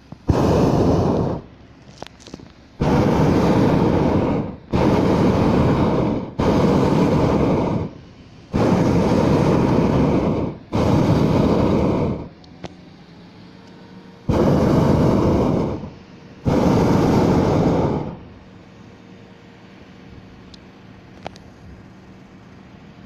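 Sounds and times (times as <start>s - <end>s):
propane burner blasts: 0.0s - 23.0s.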